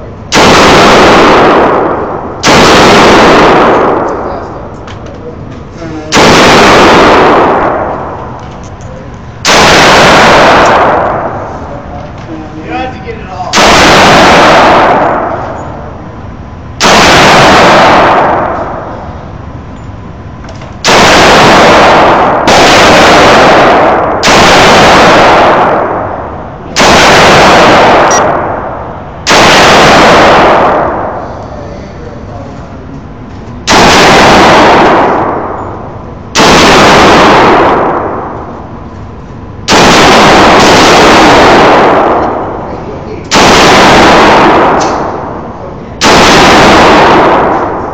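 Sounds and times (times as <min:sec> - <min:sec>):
loud gunshots with echo: 0:00.0 - 0:04.7, 0:06.0 - 0:08.4, 0:09.3 - 0:12.0, 0:12.7 - 0:31.4, 0:33.6 - 0:38.9, 0:39.6 - 0:47.9
rifle shots booming indoors: 0:00.0 - 0:47.9.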